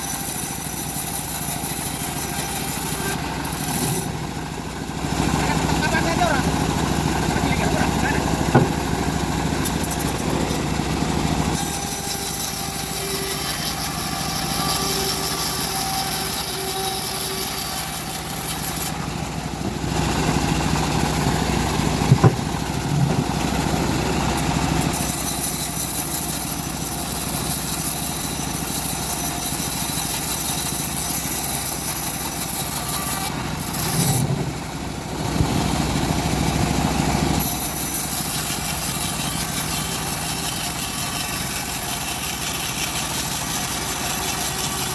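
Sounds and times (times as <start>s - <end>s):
bandsaw mill running: 0.0s - 44.9s.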